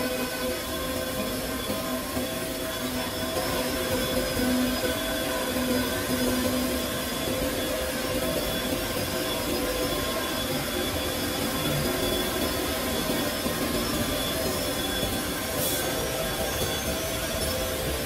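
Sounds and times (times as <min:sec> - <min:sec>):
wood router drone and whine: 0:00.0 - 0:18.0.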